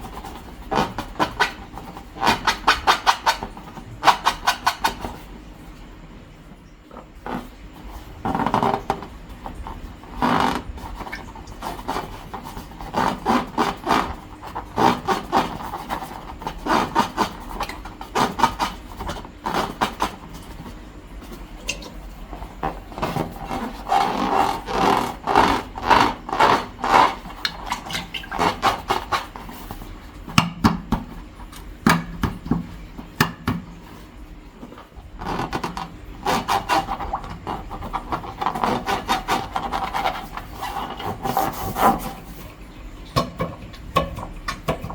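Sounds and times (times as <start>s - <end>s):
balloons and slime rubbing: 0.0s - 5.3s, 6.9s - 21.6s, 22.2s - 31.0s, 31.6s - 42.6s.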